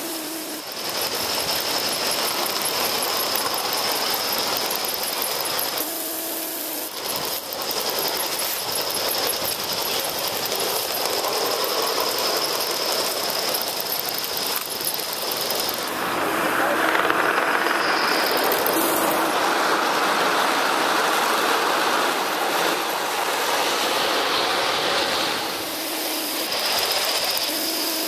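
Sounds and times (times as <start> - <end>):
steam locomotive exhaust chuffs: 0.0 - 28.0
wheel clatter: 0.6 - 5.9, 6.8 - 27.6.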